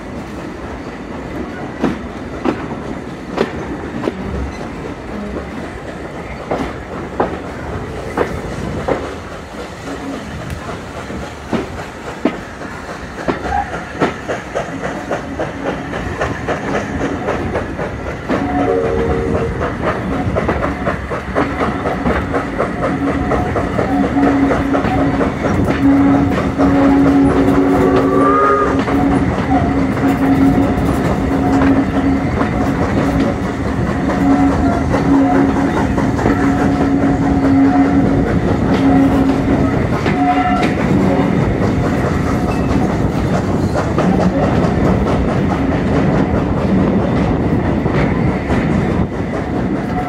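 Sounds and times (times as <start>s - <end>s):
train wheels clicking over rail joints: 0.0s - 50.0s.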